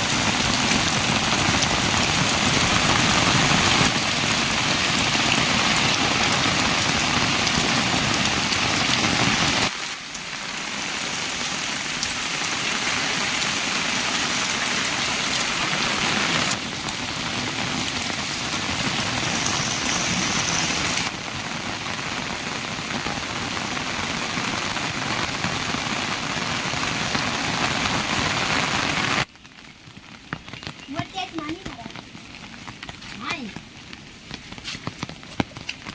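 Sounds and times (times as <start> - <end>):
heavy rain pouring: 0.0 - 35.9.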